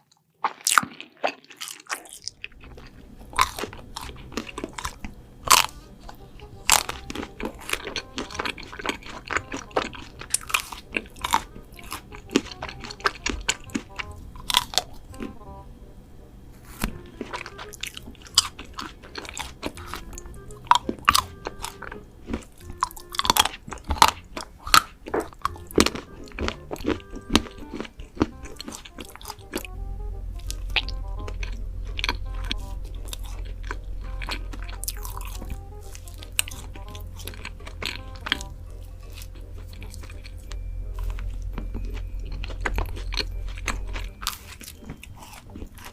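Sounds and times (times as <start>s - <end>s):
crunchy food chewing: 0.0s - 15.7s, 16.4s - 45.9s
quiet background music: 0.6s - 45.9s.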